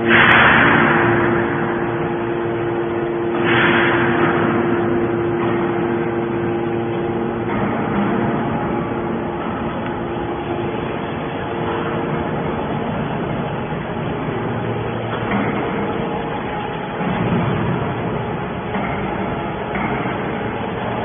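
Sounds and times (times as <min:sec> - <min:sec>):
hydraulic unit humming: 0:00.0 - 0:21.0
machine rushing noise: 0:00.0 - 0:21.0.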